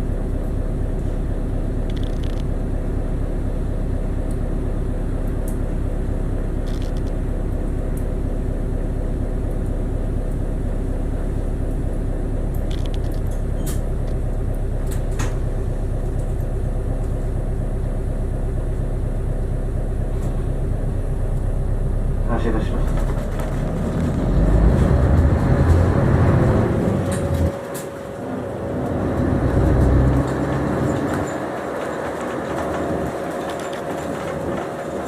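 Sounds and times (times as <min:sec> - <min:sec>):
bus engine rumbling: 0:00.0 - 0:35.0.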